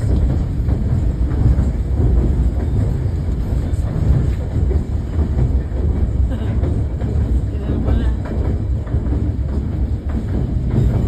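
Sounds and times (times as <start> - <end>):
low rumble of wheels on rail: 0.0 - 11.0.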